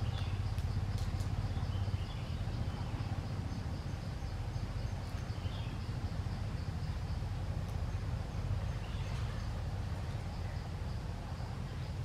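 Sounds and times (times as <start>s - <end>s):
bird chirp: 0.0s - 7.2s, 7.8s - 10.8s.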